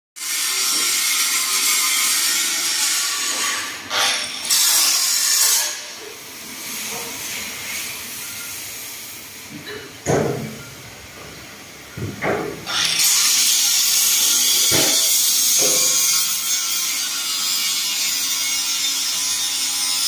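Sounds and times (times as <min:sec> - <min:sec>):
harsh hiss of steel cutting: 0:00.2 - 0:09.3, 0:12.7 - 0:20.0.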